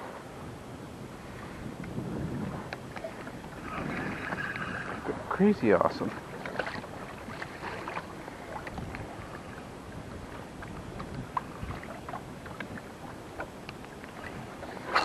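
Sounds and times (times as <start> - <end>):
choppy water: 0.0 - 15.0
wind: 0.0 - 15.0.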